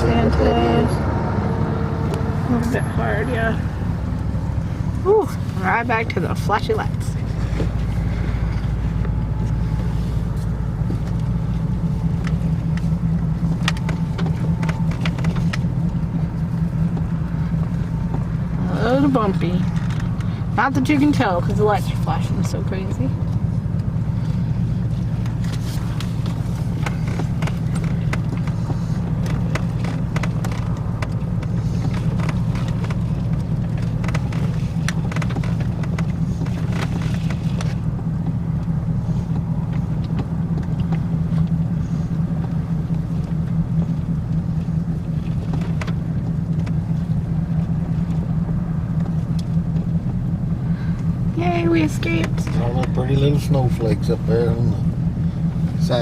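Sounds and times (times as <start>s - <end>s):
car engine and tyres droning: 0.0s - 56.0s.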